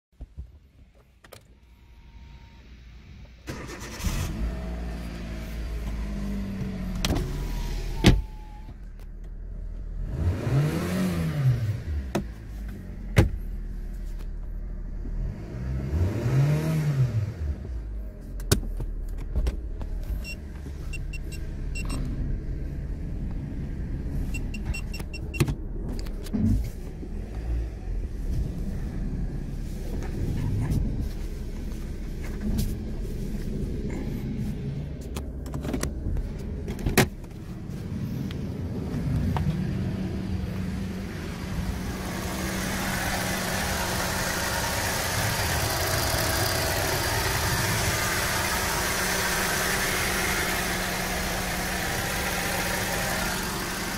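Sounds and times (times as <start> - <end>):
car engine running and revving: 0.2 - 53.9.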